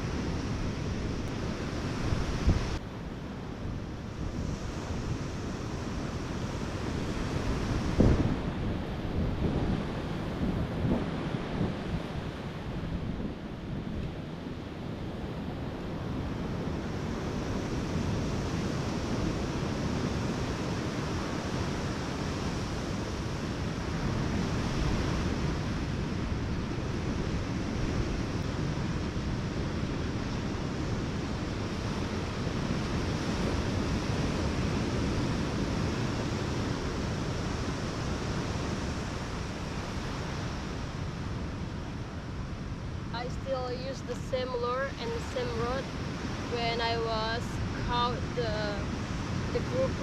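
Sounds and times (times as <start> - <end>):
ocean surf breaking: 0.0 - 50.0.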